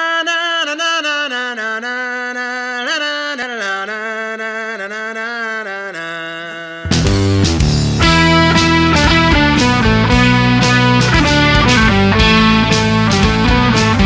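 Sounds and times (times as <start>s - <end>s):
lone held melody line: 1.0s - 14.0s.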